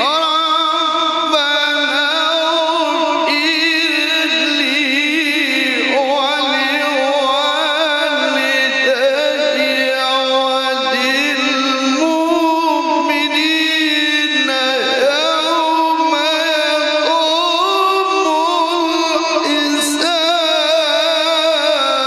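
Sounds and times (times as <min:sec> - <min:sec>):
man reciting melismatic chant: 0:00.0 - 0:22.0.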